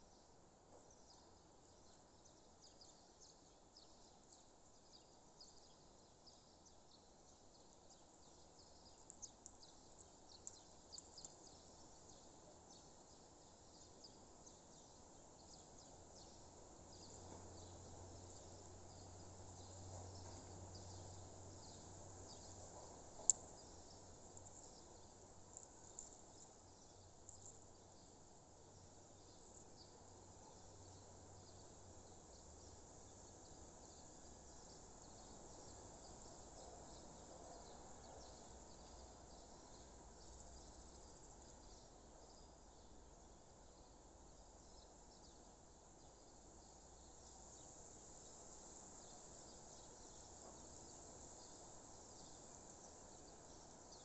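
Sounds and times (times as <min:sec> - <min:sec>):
low steady hush: 0:00.0 - 0:54.0.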